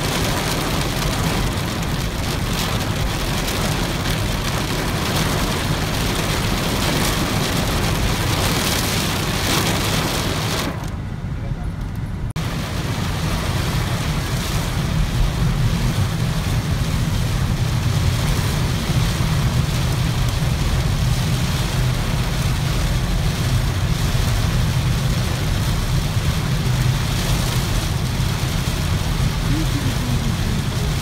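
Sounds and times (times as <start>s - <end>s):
rain drumming on car roof: 0.0s - 11.0s, 12.3s - 31.0s
car low rumble: 0.0s - 31.0s.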